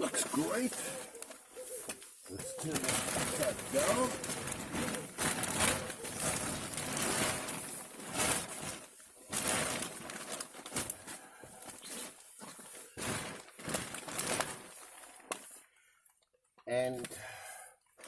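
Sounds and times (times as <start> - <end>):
plastic bag rustling: 0.0 - 15.7.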